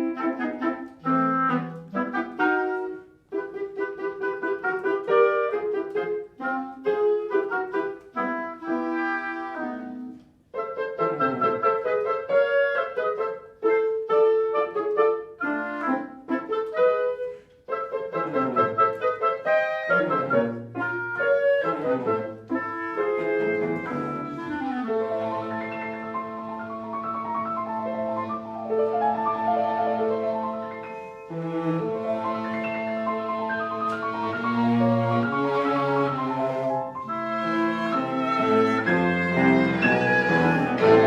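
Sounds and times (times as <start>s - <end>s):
clarinet: 0.0s - 41.0s
piano: 0.0s - 41.0s.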